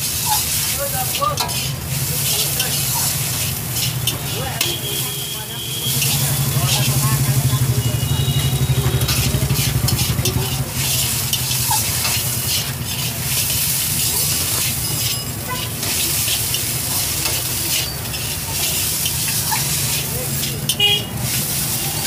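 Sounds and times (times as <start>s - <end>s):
metal spatula scraping a wok: 0.0s - 22.0s
noodles sizzling in a wok: 0.0s - 22.0s.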